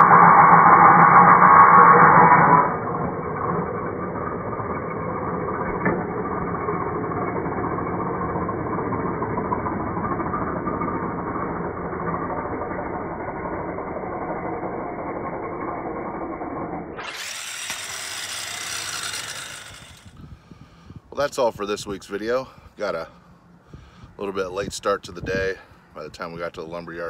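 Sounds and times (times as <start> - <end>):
mechanical hum: 0.0 - 26.1.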